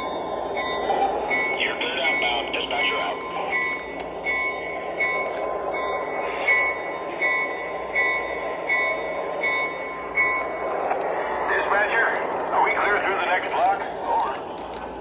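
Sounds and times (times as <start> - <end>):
electronic locomotive bell ringing: 0.0 - 13.5
model train rumbling on track: 0.0 - 15.0.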